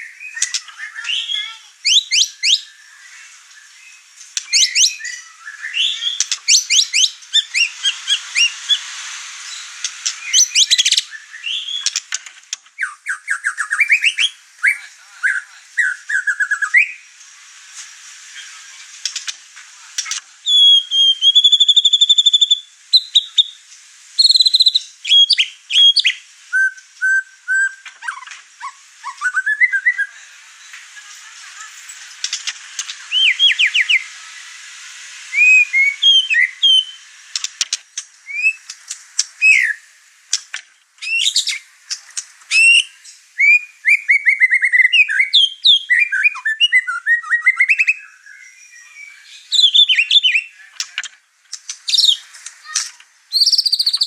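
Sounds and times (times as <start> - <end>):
songbird singing whistles and trills: 0.0 - 12.1, 12.8 - 17.1, 20.0 - 34.6, 35.2 - 39.9, 41.0 - 50.9, 51.5 - 54.0.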